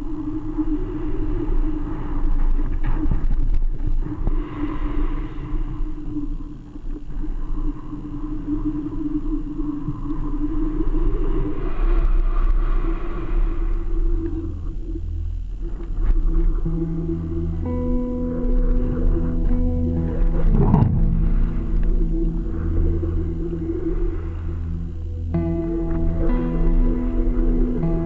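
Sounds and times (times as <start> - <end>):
steady low hum: 0.0 - 28.0
wind noise on microphone: 0.0 - 28.0.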